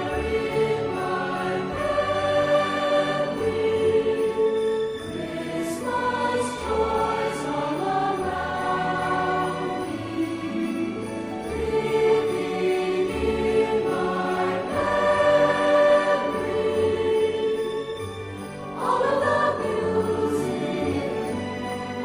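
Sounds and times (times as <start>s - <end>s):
choir holding long chords: 0.0s - 22.0s.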